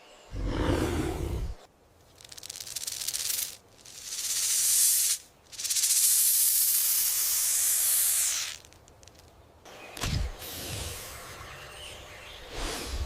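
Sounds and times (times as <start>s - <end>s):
snake hissing: 0.3s - 8.6s, 10.3s - 13.0s.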